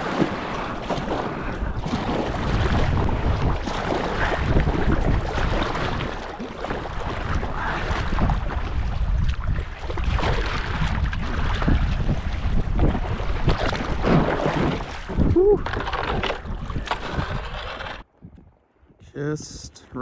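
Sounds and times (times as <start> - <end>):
water splashing around kayak: 0.0 - 18.3
wind buffeting microphone: 0.0 - 20.0.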